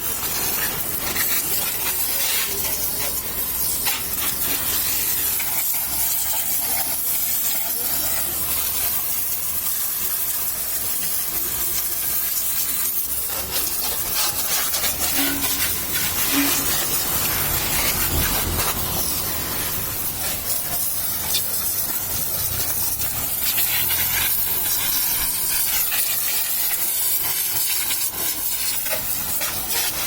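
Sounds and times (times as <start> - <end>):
hissing spray: 0.0 - 30.0.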